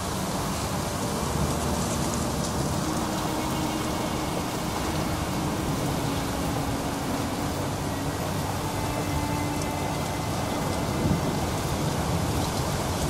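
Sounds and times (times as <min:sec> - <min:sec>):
heavy rain: 0:00.0 - 0:13.0
strong wind: 0:00.0 - 0:13.0.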